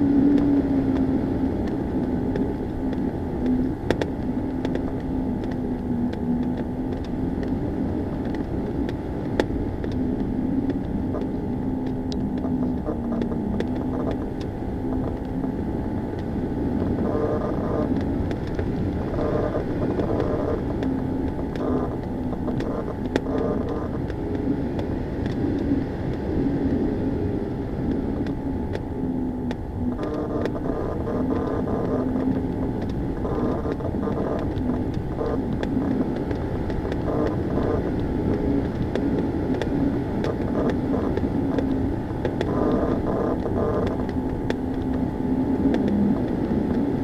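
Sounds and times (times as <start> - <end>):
low wavering drone: 0.0 - 47.0.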